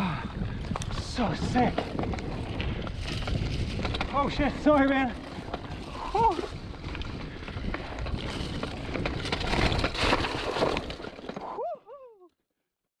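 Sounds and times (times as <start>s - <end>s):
bike tyres crunching on dirt: 0.0s - 11.6s
bike chain and frame clattering: 0.6s - 11.6s.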